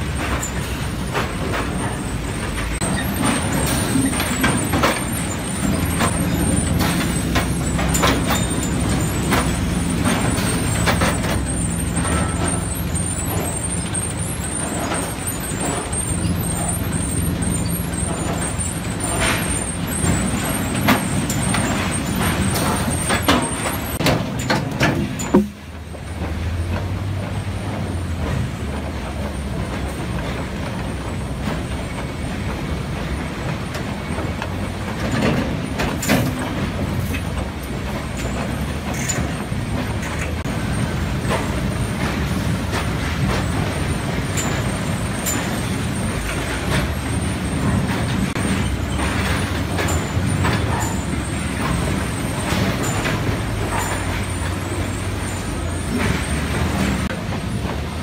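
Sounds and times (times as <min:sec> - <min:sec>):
sharp clanks and knocks: 0:00.0 - 0:57.8.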